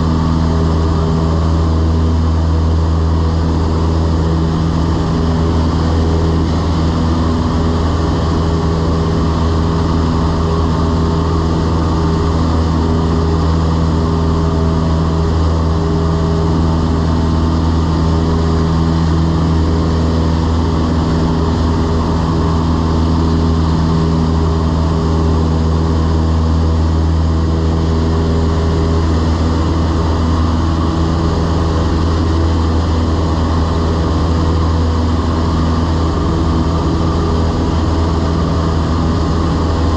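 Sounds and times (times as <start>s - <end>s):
airplane engine and propeller droning: 0.0s - 39.9s.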